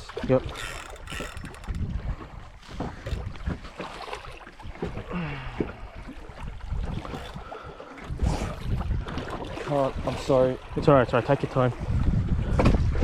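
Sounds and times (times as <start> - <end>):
wind buffeting microphone: 0.0 - 3.8, 4.6 - 13.0.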